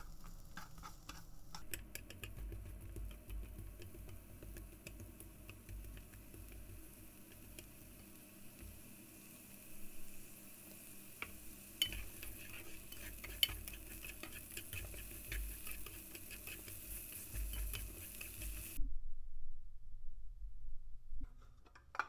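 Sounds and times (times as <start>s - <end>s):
vegetables sizzling in frying pan: 0.0s - 18.8s.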